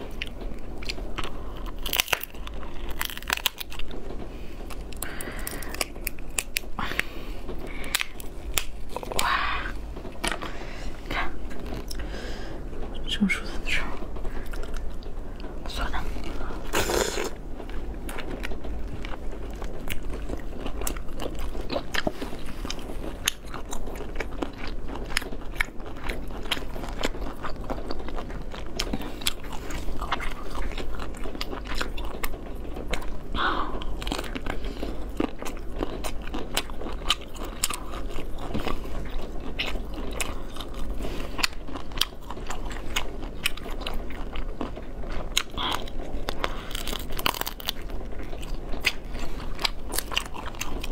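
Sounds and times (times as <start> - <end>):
chewing with crunches: 0.0 - 13.0, 14.0 - 50.9.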